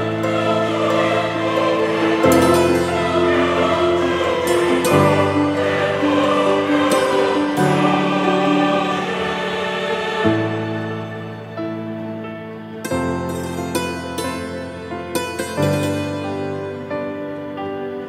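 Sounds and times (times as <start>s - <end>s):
slow sustained music chords: 0.0s - 18.0s.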